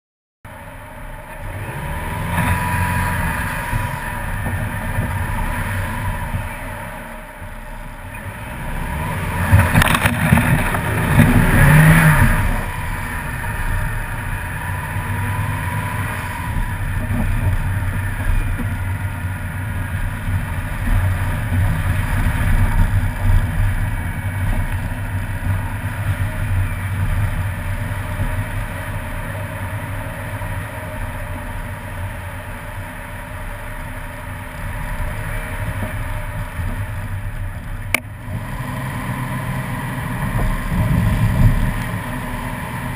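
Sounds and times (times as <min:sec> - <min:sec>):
car engine revving: 0:00.5 - 0:42.9
tyre noise on wet road: 0:00.5 - 0:42.9
tyres churning through snow: 0:00.5 - 0:42.9.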